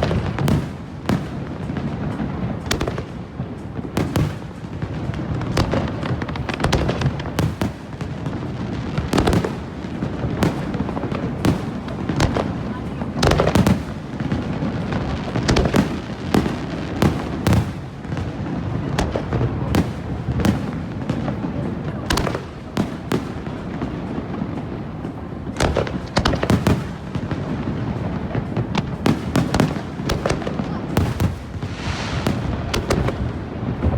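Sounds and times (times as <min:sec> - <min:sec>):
firework bangs and crackles: 0:00.0 - 0:33.9.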